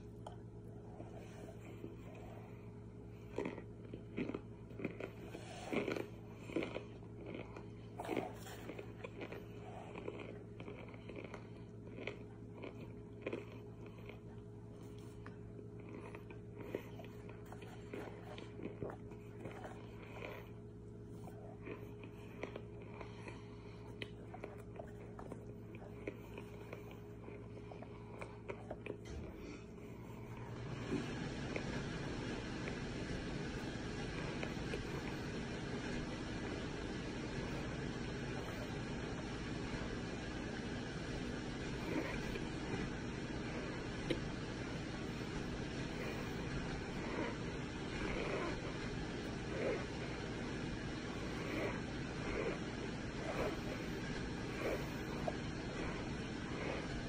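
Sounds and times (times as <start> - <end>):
chewing crunching: 0.0 - 57.0
steady low hum: 0.0 - 57.0.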